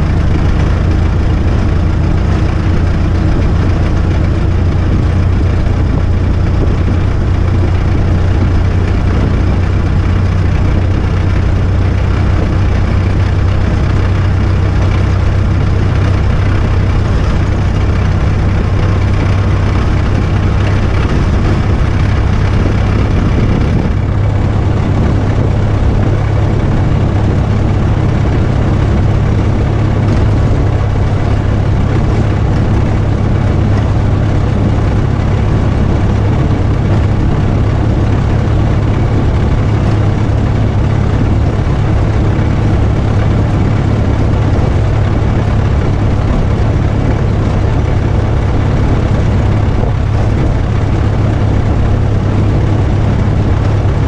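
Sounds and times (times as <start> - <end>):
car engine droning: 0.0 - 54.0
wind and road noise: 0.0 - 54.0.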